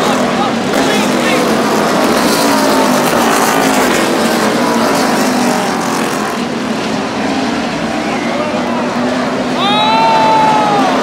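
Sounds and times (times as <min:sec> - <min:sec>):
race car engines racing past: 0:00.0 - 0:11.0.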